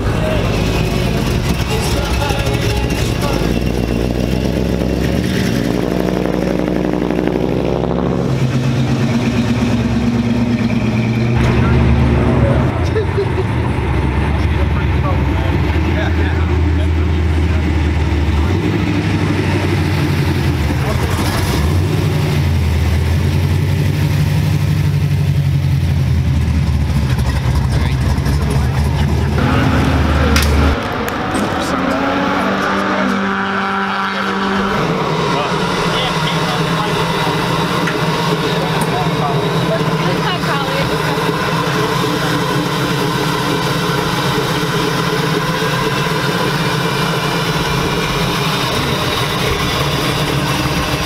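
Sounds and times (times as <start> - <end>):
car engines driving past: 0.0 - 51.0.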